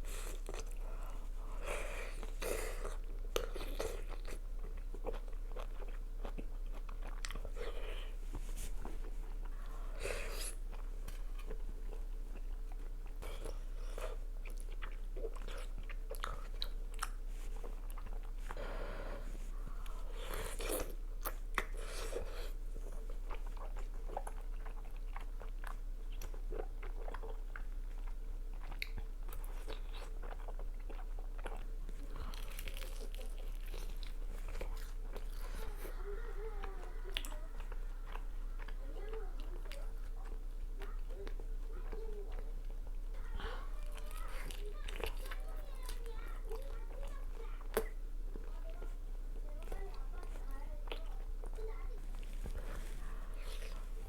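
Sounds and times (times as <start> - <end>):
faint steady hum: 0.0 - 54.0
person chewing and crunching: 0.0 - 54.0.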